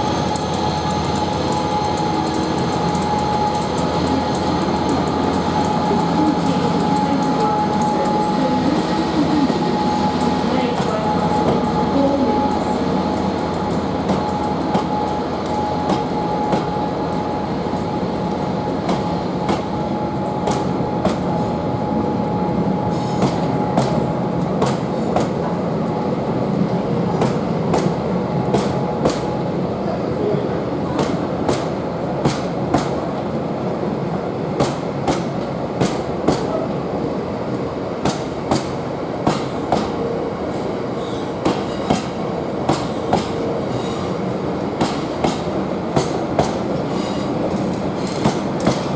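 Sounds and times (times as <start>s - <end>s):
heavy train rumble: 0.0s - 48.9s.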